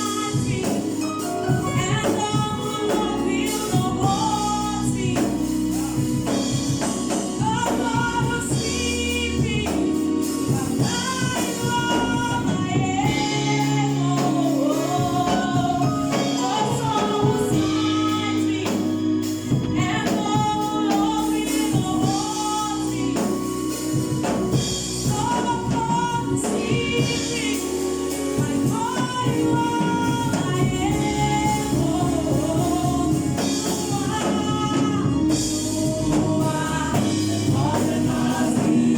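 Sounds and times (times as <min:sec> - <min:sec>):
choir singing gospel: 0:00.0 - 0:38.9
instrumental backing with steady beat: 0:00.0 - 0:38.9.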